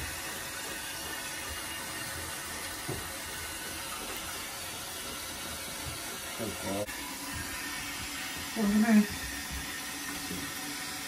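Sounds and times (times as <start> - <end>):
shower spraying into bathtub: 0.0 - 11.0.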